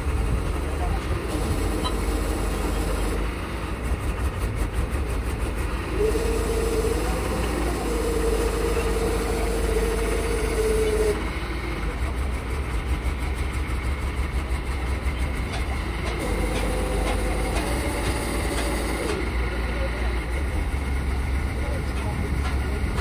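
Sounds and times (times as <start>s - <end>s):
crane engine rumble: 0.0s - 23.0s
steady mechanical whine: 0.0s - 23.0s.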